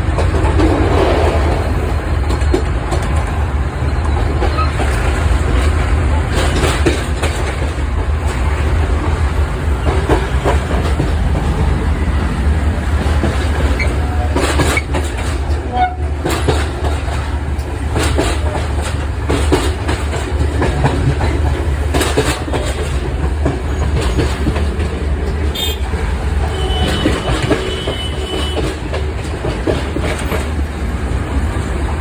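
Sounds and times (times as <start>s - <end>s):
train rumbling on rails: 0.0s - 32.0s
wheels clicking over rail joints: 0.0s - 32.0s.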